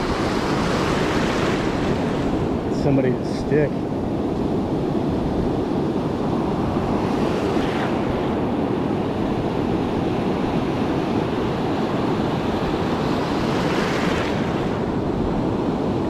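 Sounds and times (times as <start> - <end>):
ocean surf breaking: 0.0 - 16.0
wind on microphone: 0.0 - 16.0.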